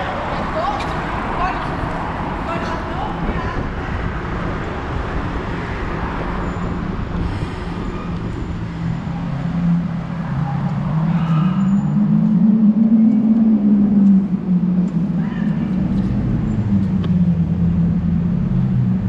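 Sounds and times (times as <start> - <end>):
motor vehicle engine: 0.0 - 19.0
road traffic: 0.0 - 19.0
wind rushing over microphone: 0.0 - 19.0.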